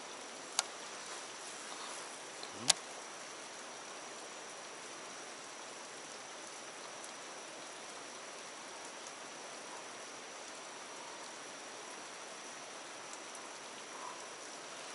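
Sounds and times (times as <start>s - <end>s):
light rain hissing: 0.0s - 14.9s
faint ticks: 0.1s - 3.8s, 6.4s - 14.9s.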